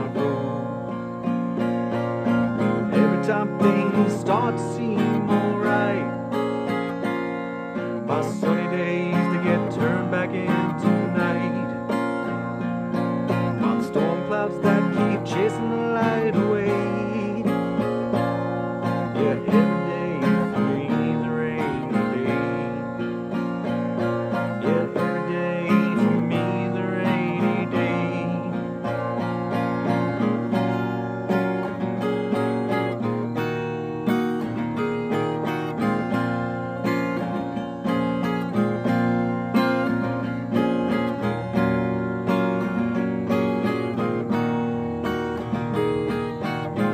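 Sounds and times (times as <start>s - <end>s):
acoustic guitar country song: 0.0s - 46.9s.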